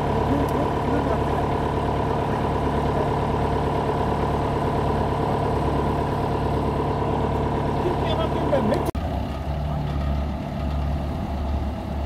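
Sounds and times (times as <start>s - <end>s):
drill rig engine droning: 0.0s - 12.0s.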